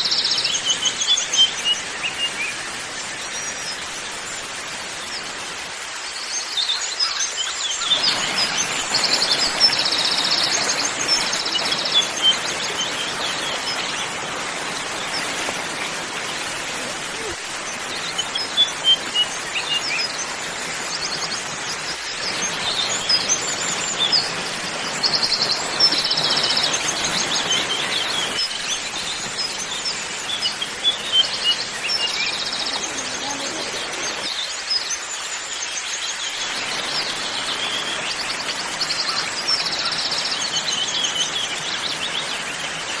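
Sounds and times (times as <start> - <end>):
birds chirping and calling: 6.5 - 34.4, 36.2 - 43.0.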